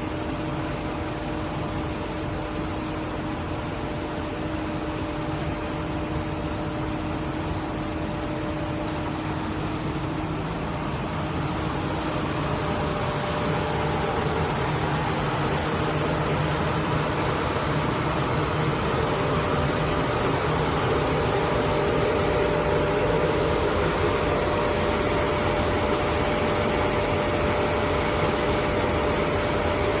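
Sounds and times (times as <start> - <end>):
film blowing machine humming: 0.0 - 30.0.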